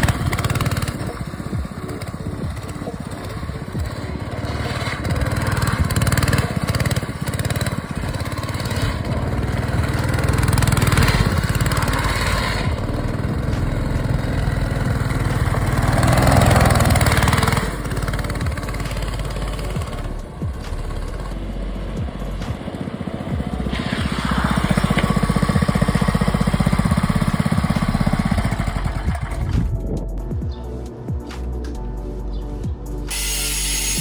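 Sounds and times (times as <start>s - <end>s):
go-kart engine revving: 0.0s - 29.8s.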